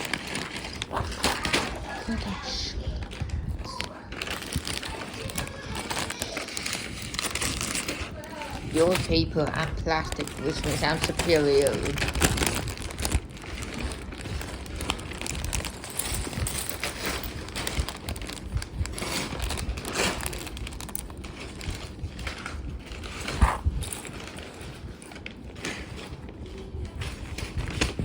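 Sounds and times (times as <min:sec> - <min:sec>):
plastic bricks clicking and rattling: 0:00.0 - 0:01.8, 0:03.2 - 0:26.1
rustling: 0:00.0 - 0:28.0.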